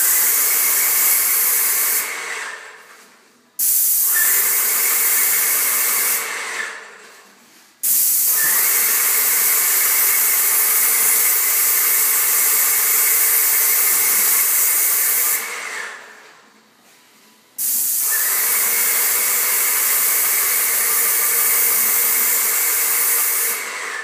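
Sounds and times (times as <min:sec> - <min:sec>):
paint sprayer hissing: 0:00.0 - 0:16.2, 0:17.6 - 0:24.0
paint sprayer whine: 0:00.0 - 0:16.3, 0:17.6 - 0:24.0.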